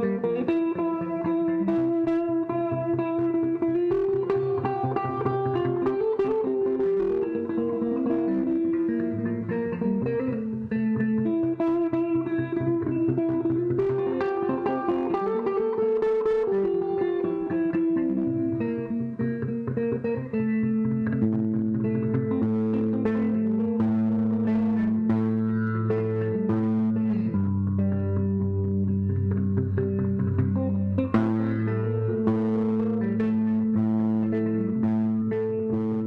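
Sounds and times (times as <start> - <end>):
solo guitar music: 0.0 - 36.0.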